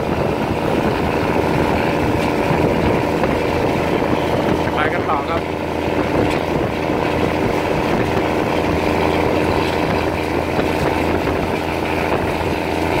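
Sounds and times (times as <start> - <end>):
diesel train engine drone: 0.0 - 13.0
wheels rumbling on track: 0.0 - 13.0.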